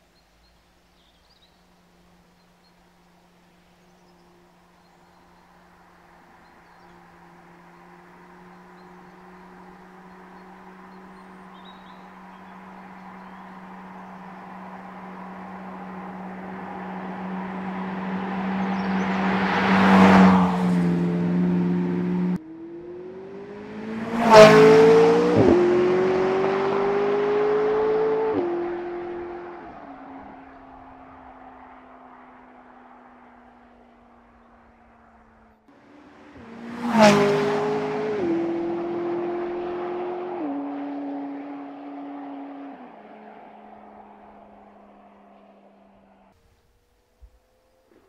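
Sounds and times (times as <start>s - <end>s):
sports car engine passing: 0.2s - 48.0s
car accelerating away: 2.9s - 46.4s.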